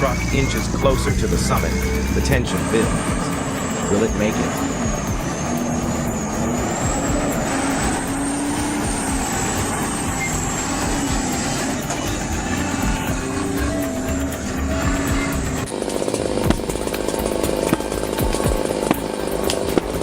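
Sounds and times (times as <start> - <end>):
high whine: 0.0 - 20.0
truck engine under load: 0.0 - 20.0.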